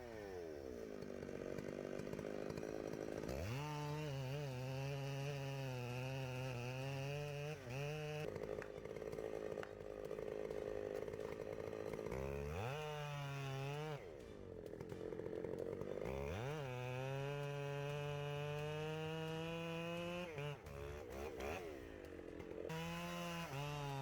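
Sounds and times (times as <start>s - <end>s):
chainsaw cutting wood: 0.0s - 24.0s.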